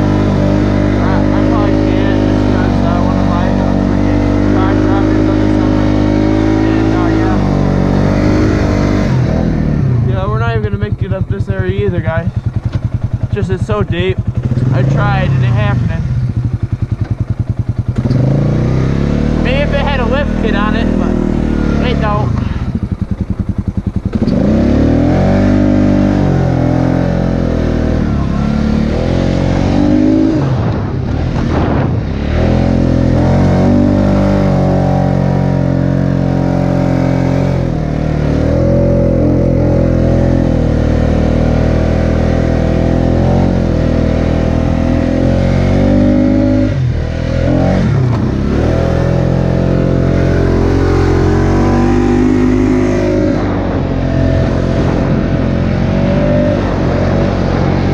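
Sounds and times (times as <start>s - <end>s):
quad bike engine revving: 0.0s - 57.9s.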